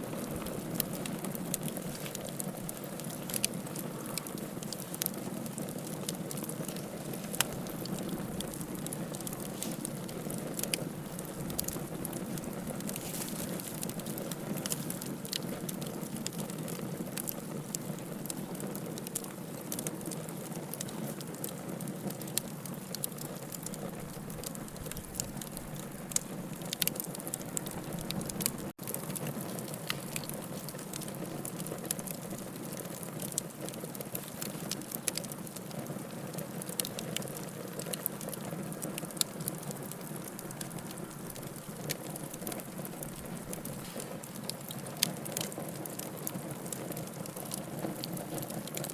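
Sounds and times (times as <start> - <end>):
bonfire flames rushing: 0.0 - 48.9
wood crackling and popping: 0.0 - 48.9.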